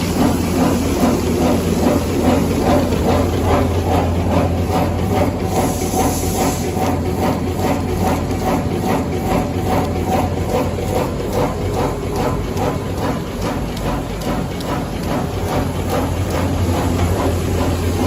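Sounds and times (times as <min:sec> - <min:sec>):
packaging machine hum and clatter: 0:00.0 - 0:18.0.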